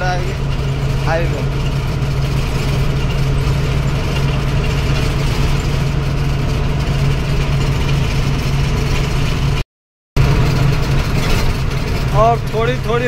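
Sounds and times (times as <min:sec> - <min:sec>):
road and cab noise: 0:00.0 - 0:09.6, 0:10.2 - 0:13.0
truck engine humming: 0:00.0 - 0:09.6, 0:10.2 - 0:13.0.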